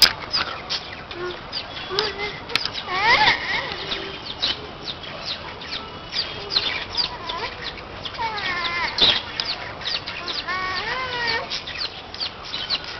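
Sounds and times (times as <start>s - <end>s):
birds chirping: 0.0s - 12.9s
drawn-out bird call: 0.0s - 12.9s.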